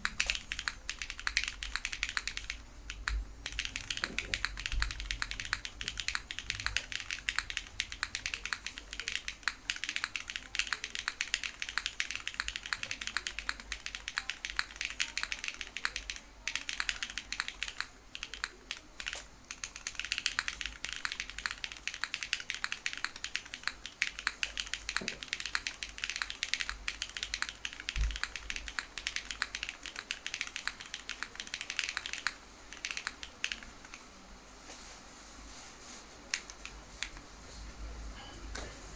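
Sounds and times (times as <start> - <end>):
mechanical keyboard typing: 0.0 - 34.0, 36.3 - 37.2.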